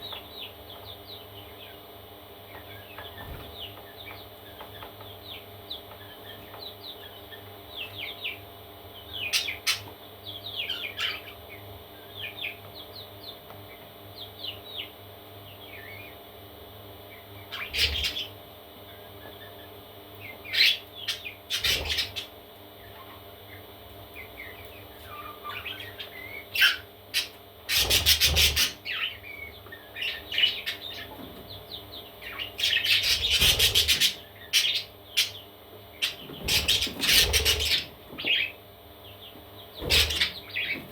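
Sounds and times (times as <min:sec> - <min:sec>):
faint steady hum: 0:00.0 - 0:40.9
parrot chicks chirping: 0:00.0 - 0:40.9
harsh bird calls: 0:02.5 - 0:16.3, 0:17.0 - 0:40.9.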